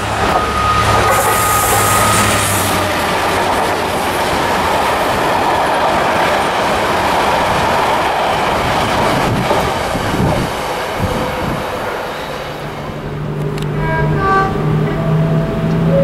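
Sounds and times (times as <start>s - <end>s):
train wheels on rails: 0.0s - 13.8s.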